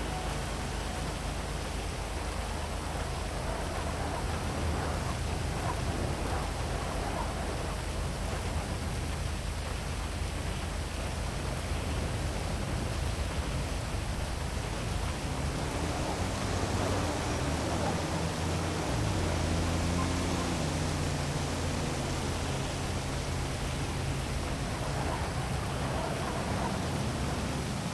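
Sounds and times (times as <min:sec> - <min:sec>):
heavy rain falling: 0:00.0 - 0:27.9
low city hum: 0:00.0 - 0:27.9.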